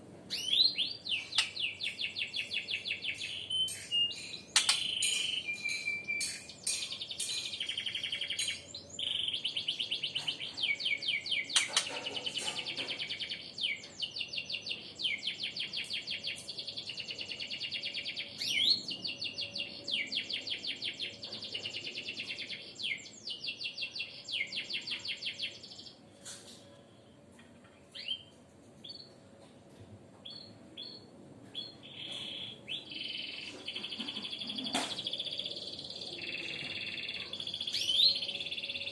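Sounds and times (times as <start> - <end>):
birds singing rapid trills: 0.3 - 26.5, 30.2 - 38.9.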